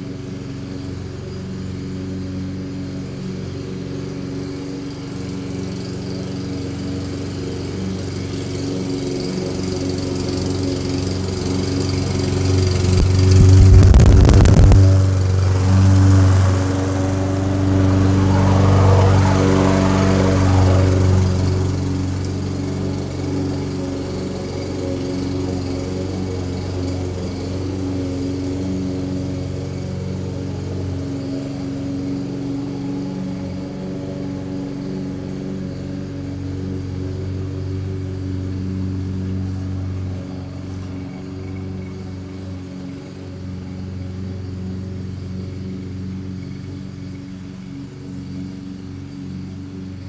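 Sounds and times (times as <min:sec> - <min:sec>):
lawn mower engine running: 0:00.0 - 0:50.0.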